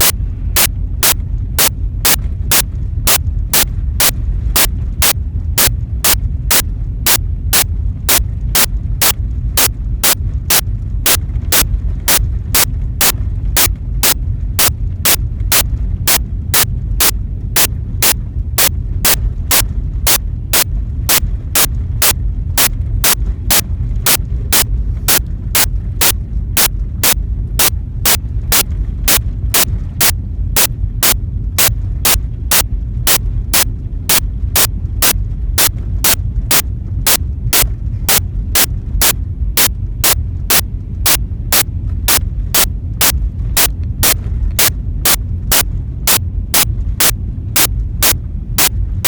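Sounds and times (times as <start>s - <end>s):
sharp clicking: 0.0s - 48.7s
low rumble: 0.0s - 49.0s.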